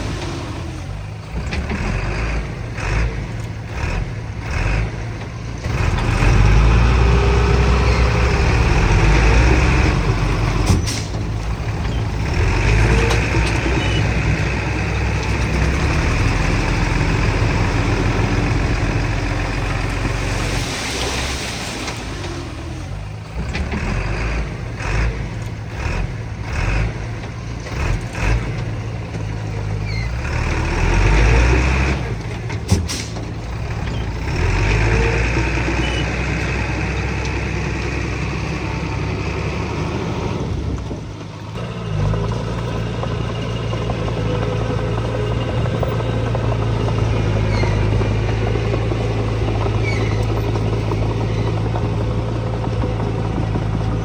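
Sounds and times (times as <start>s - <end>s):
heavy machinery diesel engines: 0.0s - 54.0s.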